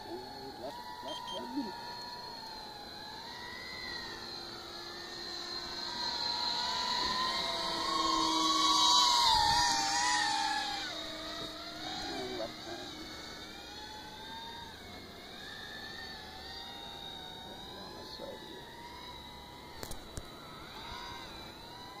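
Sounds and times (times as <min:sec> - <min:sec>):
model aircraft electric whine: 0:00.0 - 0:22.0.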